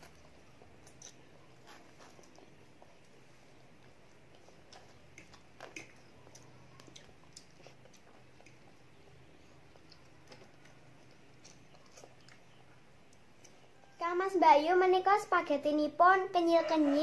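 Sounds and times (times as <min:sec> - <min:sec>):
children chewing: 0:00.0 - 0:14.0
faint low hum: 0:00.0 - 0:17.0.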